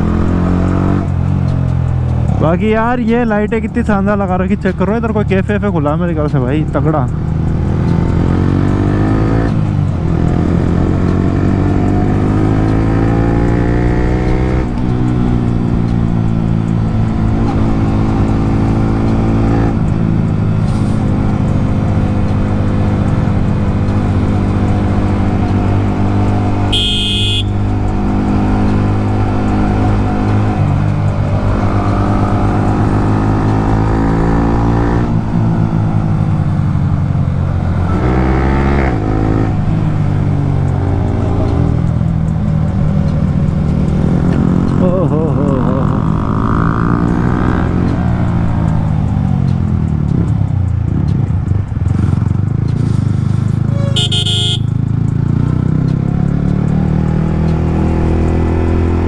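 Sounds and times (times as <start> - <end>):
motorcycle engine accelerating: 0.0 - 2.4, 4.8 - 59.0.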